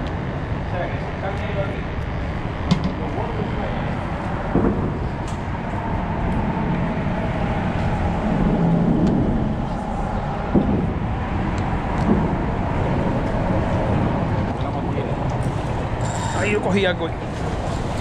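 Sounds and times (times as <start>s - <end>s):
traffic rumble on bridge overhead: 0.0s - 18.0s.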